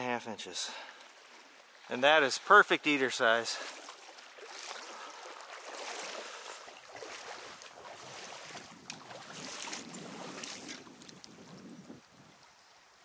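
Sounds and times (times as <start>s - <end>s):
faint water splashes: 0.0s - 13.0s
stream water rippling: 0.0s - 13.0s.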